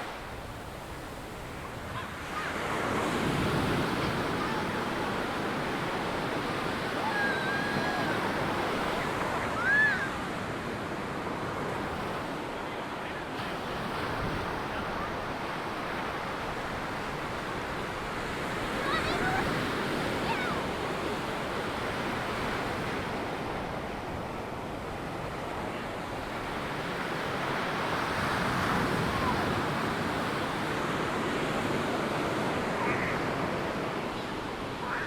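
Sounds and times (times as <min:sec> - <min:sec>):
waves breaking on beach: 0:00.0 - 0:35.0.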